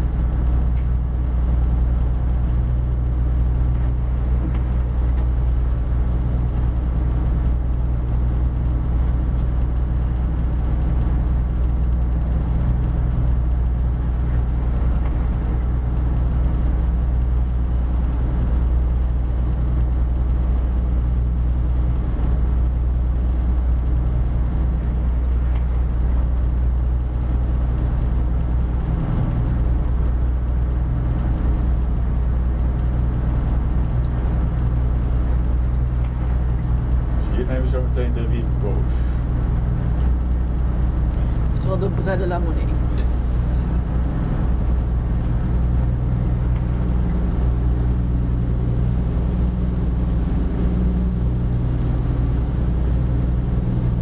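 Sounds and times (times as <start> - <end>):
ship diesel engine humming: 0.0 - 54.0.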